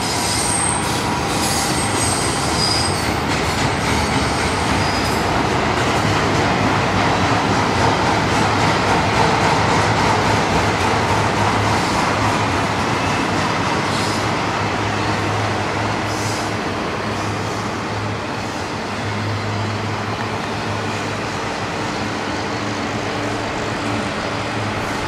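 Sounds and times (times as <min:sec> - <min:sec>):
train wheels on rails: 0:00.0 - 0:25.0.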